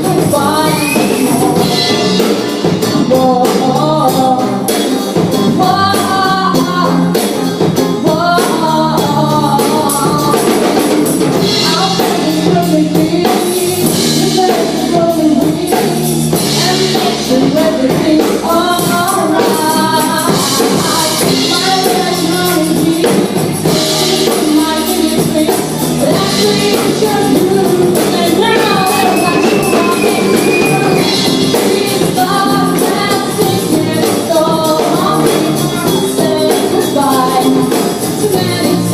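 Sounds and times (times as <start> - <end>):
live band song with singing: 0.0 - 38.9.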